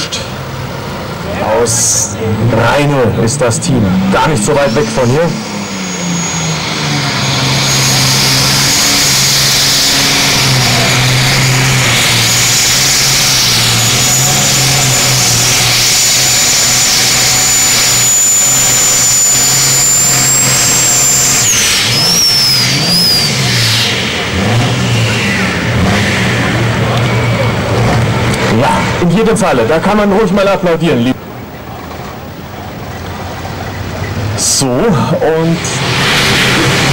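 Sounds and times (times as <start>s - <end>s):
high steady whine: 0.0s - 36.9s
tractor engine at full power: 0.0s - 36.9s.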